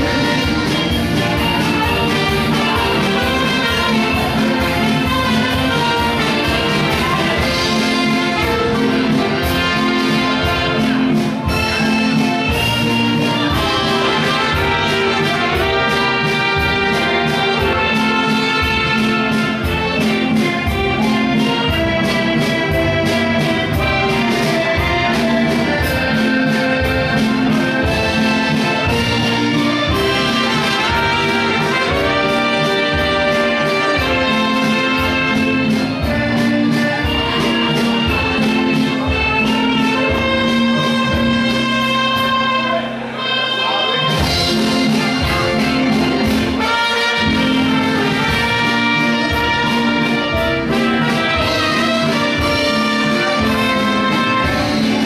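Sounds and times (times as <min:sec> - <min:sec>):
dance band playing: 0:00.0 - 0:55.0.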